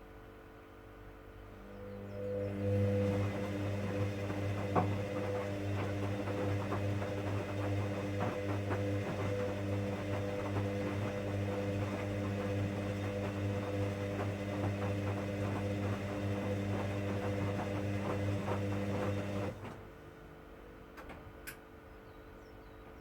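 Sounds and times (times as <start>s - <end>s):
washing machine motor hum: 1.6s - 20.2s.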